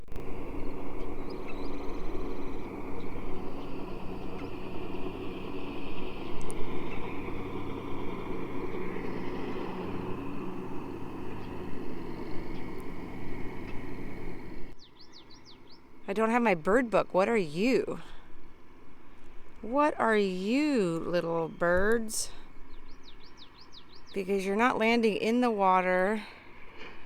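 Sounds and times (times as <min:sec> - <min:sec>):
low rumbling hum: 0:00.0 - 0:27.0.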